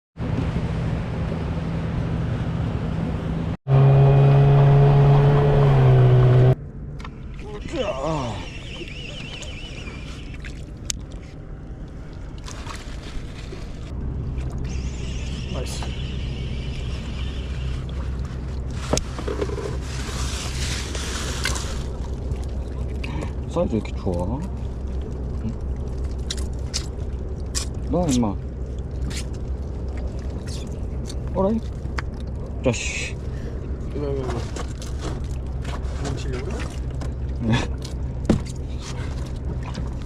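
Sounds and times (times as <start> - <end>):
boat engine humming: 0.2 - 40.0.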